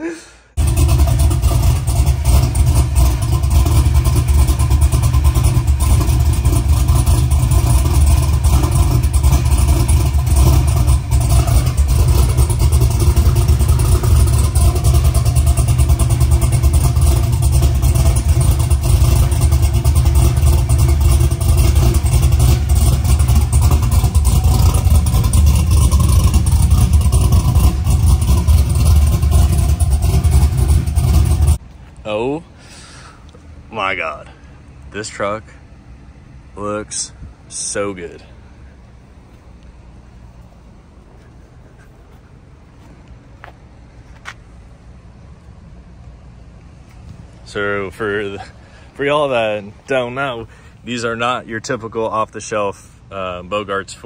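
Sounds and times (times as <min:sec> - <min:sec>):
truck engine running steadily: 0:00.0 - 0:54.0.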